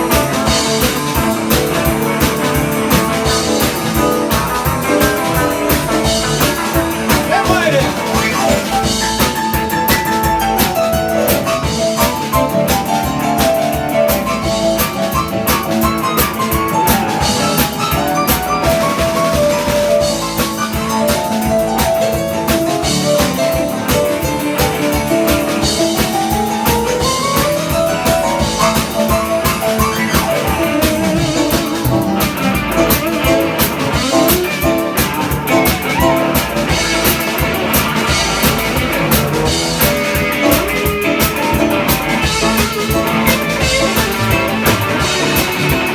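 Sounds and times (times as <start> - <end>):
drum kit beat: 0.0 - 45.9.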